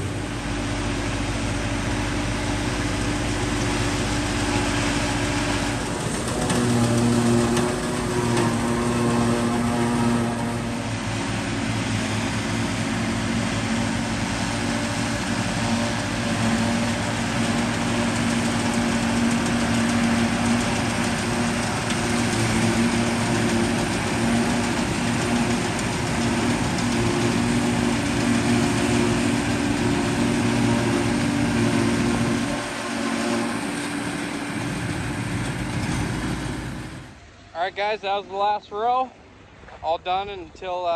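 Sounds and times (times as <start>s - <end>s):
tractor engine running: 0.0s - 37.5s
machinery noise: 0.0s - 40.8s.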